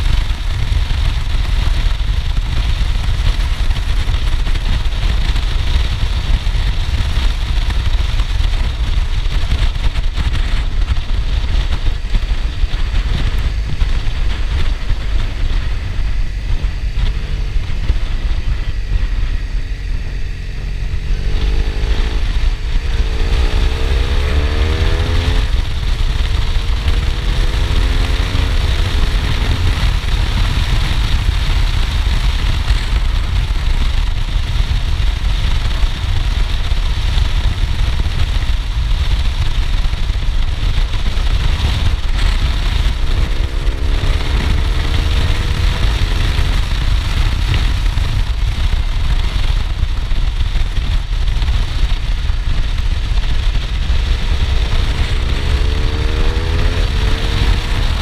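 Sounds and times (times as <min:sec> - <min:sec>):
motorcycle engine: 0:00.0 - 0:58.0
wind buffeting on microphone: 0:00.0 - 0:58.0.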